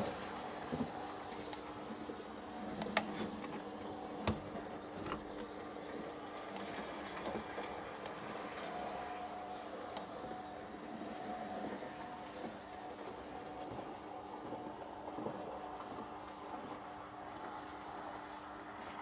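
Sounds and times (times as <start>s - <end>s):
model train motor hum: 0.0s - 19.0s.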